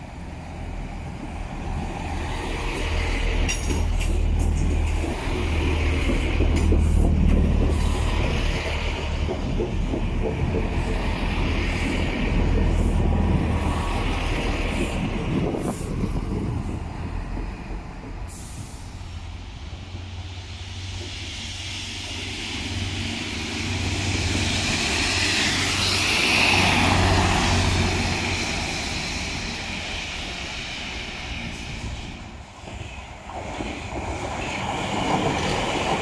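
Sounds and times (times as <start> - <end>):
diesel train engine rumble: 0.0 - 36.0
train passing with rushing hiss: 0.0 - 36.0.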